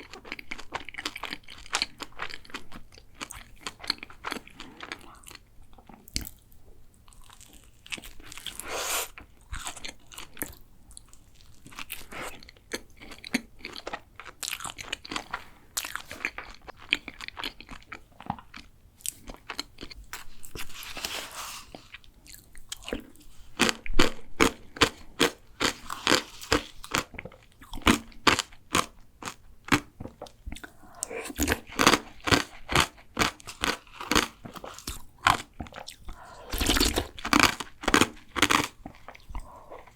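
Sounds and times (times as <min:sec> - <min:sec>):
chewing crunchy pastry: 0:00.0 - 0:39.9.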